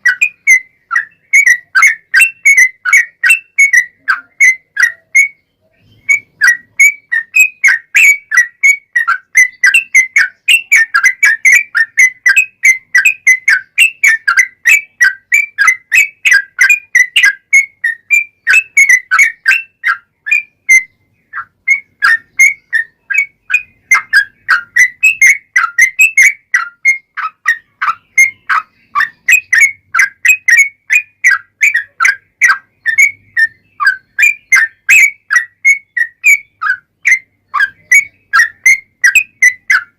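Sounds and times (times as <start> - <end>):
bulbul singing chirpy whistles: 0.0 - 39.9.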